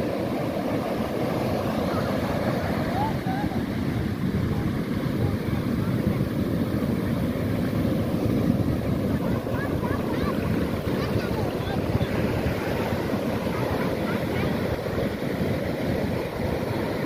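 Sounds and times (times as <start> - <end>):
surf breaking on a beach: 0.0 - 17.0
wind buffeting the microphone: 0.0 - 17.0.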